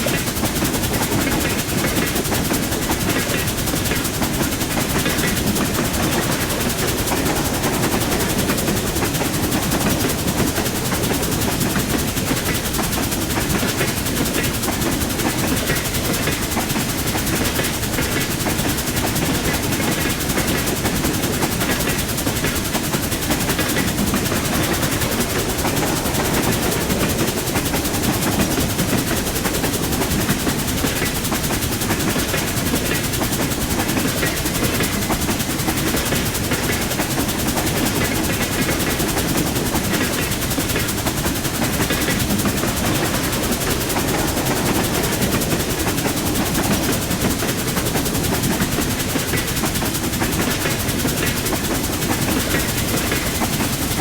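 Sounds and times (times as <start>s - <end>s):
train rumbling and clattering: 0.0s - 54.0s.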